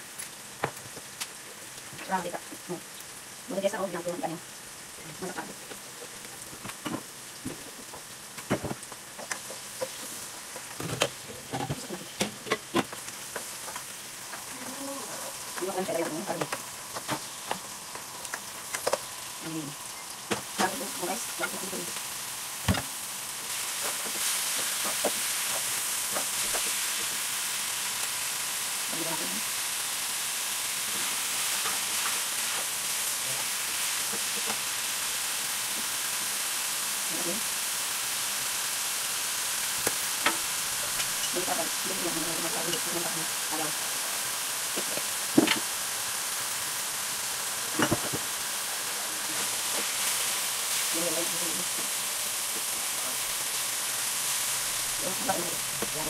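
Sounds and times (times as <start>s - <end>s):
meat sizzling in frying pan: 0.0s - 56.0s.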